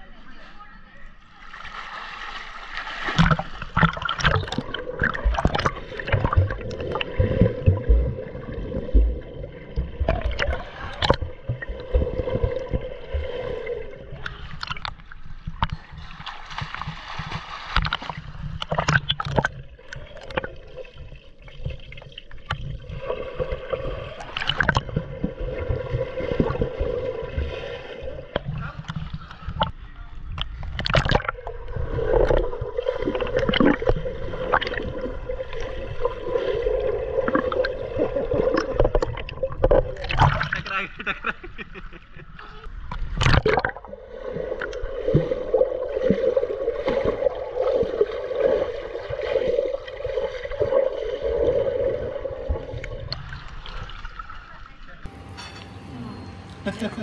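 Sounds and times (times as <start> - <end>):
muffled water splashing: 1.1 - 57.0.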